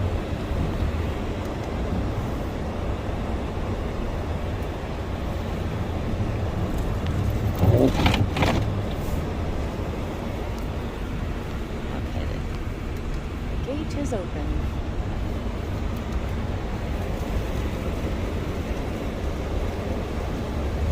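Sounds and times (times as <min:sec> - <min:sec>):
vehicle rumbling: 0:00.0 - 0:20.9.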